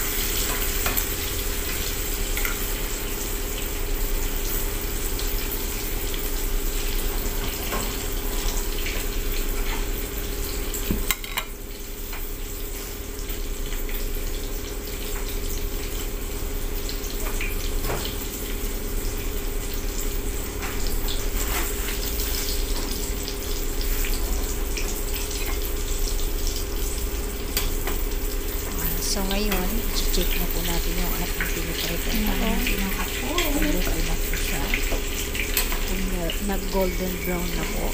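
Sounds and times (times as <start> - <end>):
omelette sizzling in oil: 0.0 - 37.9.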